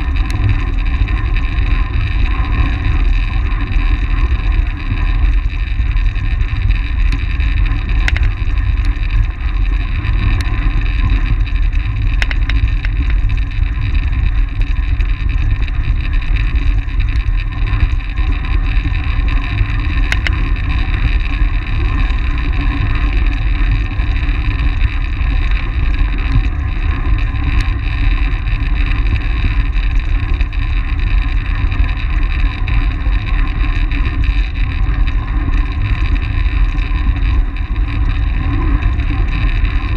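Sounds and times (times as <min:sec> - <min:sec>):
hum of tyres and drivetrain: 0:00.0 - 0:39.9
sharp ticks: 0:00.0 - 0:39.9
wind rushing over microphone: 0:00.0 - 0:39.9.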